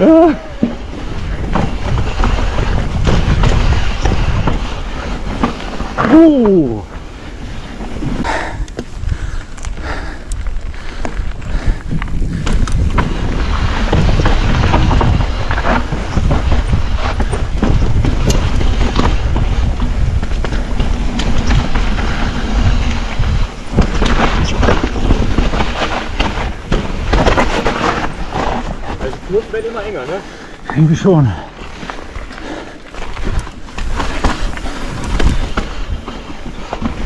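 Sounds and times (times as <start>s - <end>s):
tyres rolling over dirt and stones: 0.0s - 9.8s, 10.4s - 37.0s
bike clattering over bumps: 0.0s - 30.7s, 31.5s - 37.0s
wind buffeting microphone: 0.0s - 37.0s.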